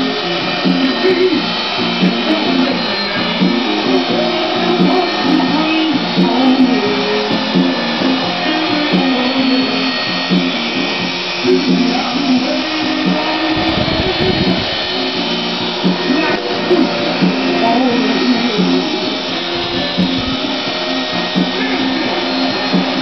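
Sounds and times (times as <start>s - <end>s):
background music: 0.0s - 23.0s
rc helicopter motor whine: 0.0s - 23.0s.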